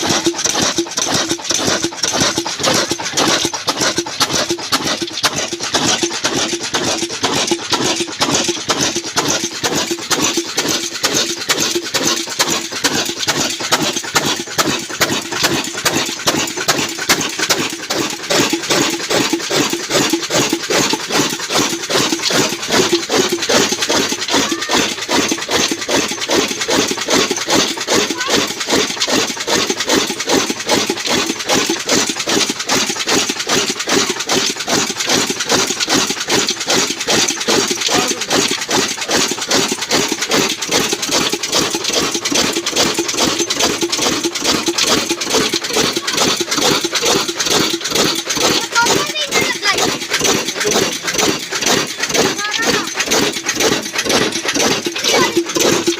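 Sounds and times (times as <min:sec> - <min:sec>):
diesel engine clattering: 0:00.0 - 0:55.9.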